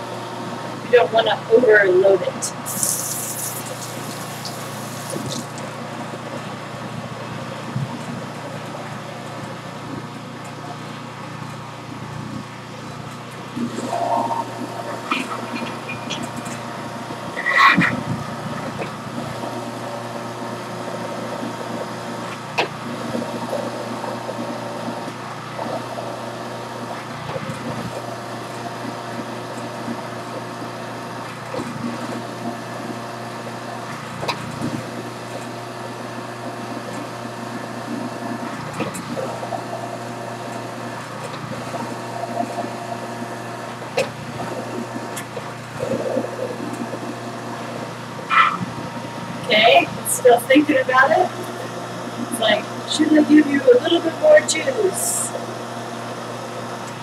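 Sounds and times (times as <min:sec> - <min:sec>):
juicer motor humming: 0:00.0 - 0:57.0.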